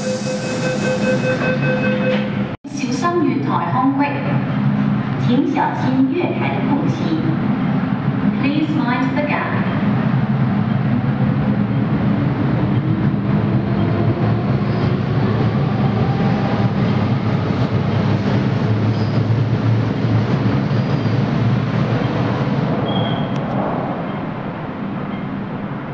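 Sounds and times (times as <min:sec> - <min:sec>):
train carriage hum and rumble: 0:00.0 - 0:25.9.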